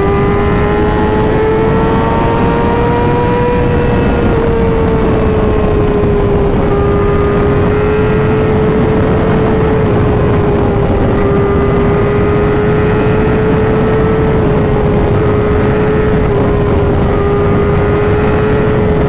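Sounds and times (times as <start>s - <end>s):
motorcycle engine cruising: 0.0s - 19.0s
wind rumble on microphone: 0.0s - 19.0s.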